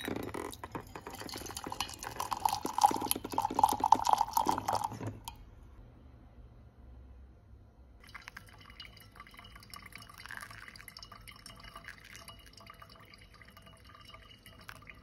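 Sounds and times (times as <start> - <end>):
water pouring into metal kettle: 0.0 - 5.3, 8.0 - 15.0.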